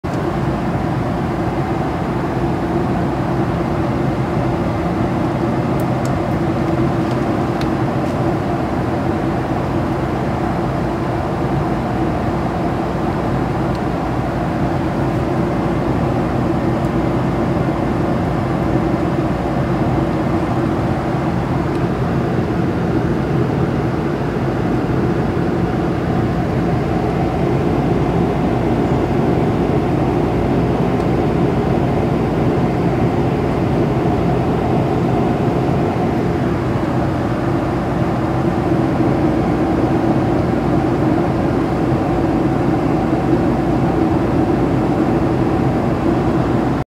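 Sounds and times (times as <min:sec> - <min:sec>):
jet cabin engine drone: 0:00.0 - 0:46.9.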